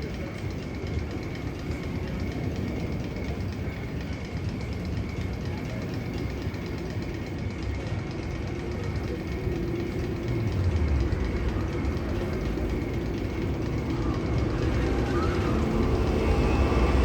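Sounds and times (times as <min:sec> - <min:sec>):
faint high whine: 0:00.0 - 0:17.0
train rumbling on track: 0:00.0 - 0:17.0.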